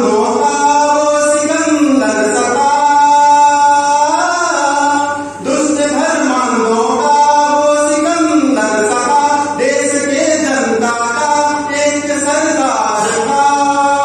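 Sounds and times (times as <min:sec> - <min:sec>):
man singing long gliding notes: 0:00.0 - 0:14.0.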